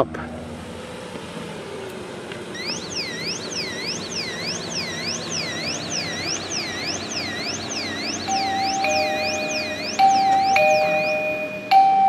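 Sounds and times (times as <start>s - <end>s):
warbling alarm siren: 0.4s - 12.0s.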